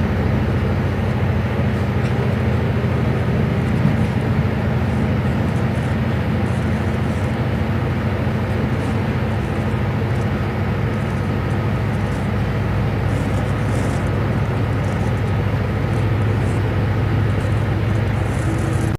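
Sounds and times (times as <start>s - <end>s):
train rumbling: 0.0s - 18.9s.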